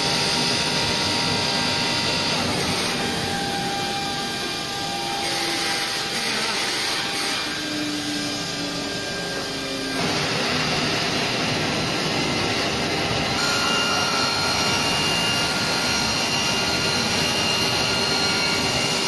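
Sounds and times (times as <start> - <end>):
cnc router machine hiss: 0.0 - 19.0
whining motor tones: 0.0 - 19.0.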